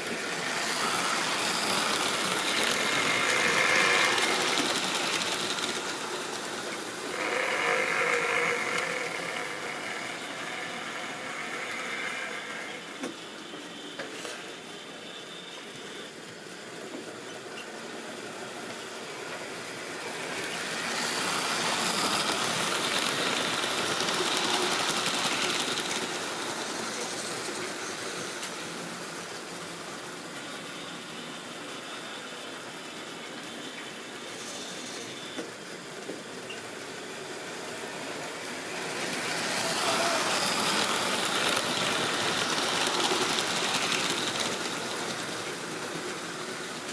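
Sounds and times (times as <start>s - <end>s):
model train running on rails: 0.0s - 46.9s.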